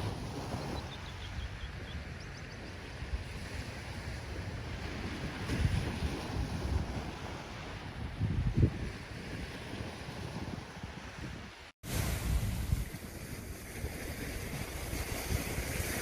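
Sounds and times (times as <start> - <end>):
ocean waves washing ashore: 0.0 - 16.0
wind buffeting microphone: 0.0 - 16.0.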